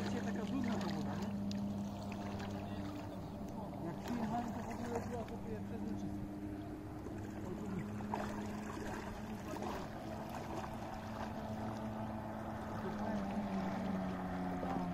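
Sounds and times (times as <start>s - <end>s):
distant jet ski engine: 0.0s - 14.9s.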